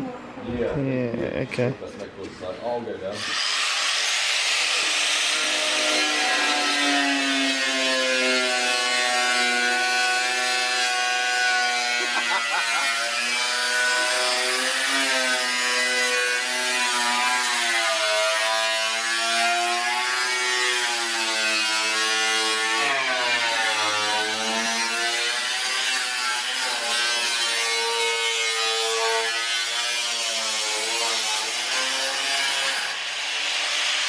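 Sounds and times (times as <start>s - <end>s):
angle grinder cutting sheet metal: 3.0s - 34.0s.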